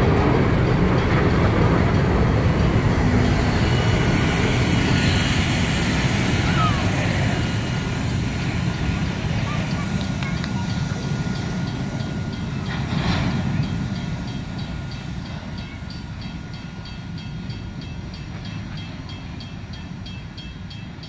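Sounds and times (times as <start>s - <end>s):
wheels clicking over rail joints: 0.0s - 20.8s
freight train rumble: 0.0s - 21.0s.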